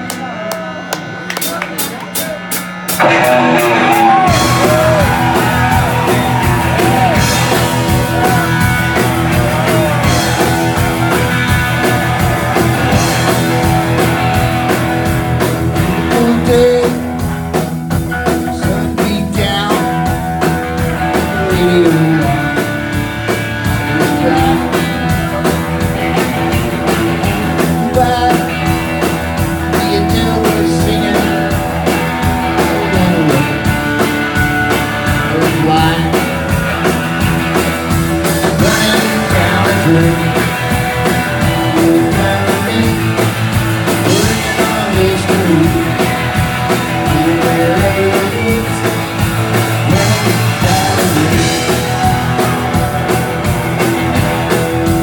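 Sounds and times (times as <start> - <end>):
electric guitar: 0.0 - 55.0
live rock band playing: 0.0 - 55.0
steady drum beat: 0.0 - 55.0.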